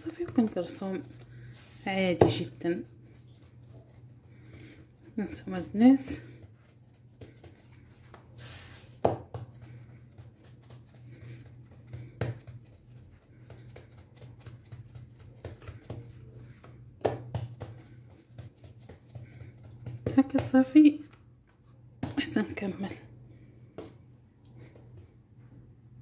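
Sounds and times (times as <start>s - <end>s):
hands patting dough: 0.0s - 22.4s
steady low hum: 0.0s - 26.0s.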